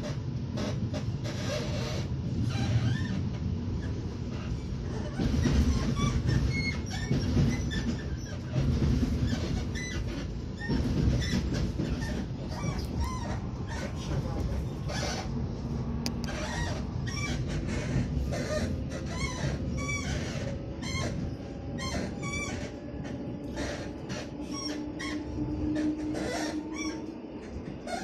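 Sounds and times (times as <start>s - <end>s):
electric train rumbling: 0.0s - 28.0s
wheels squealing on rails: 0.0s - 28.0s.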